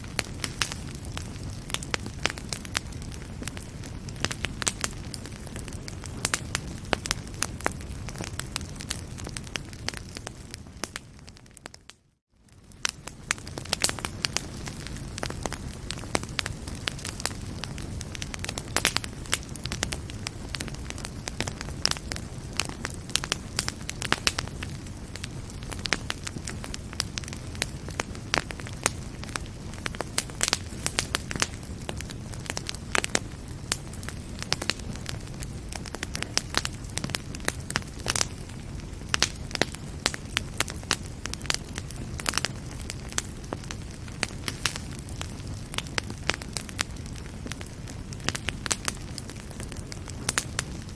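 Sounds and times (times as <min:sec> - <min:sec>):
fire crackling and popping: 0:00.0 - 0:50.9
fire low rumble: 0:00.0 - 0:50.9.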